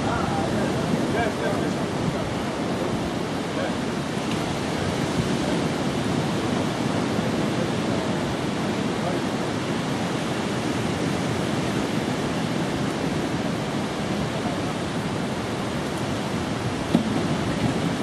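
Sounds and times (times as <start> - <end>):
sea surf rushing: 0.0 - 18.0.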